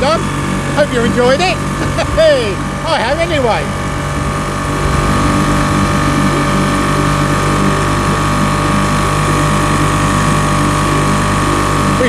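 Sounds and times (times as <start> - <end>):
boat engine running with whine: 0.0 - 12.0.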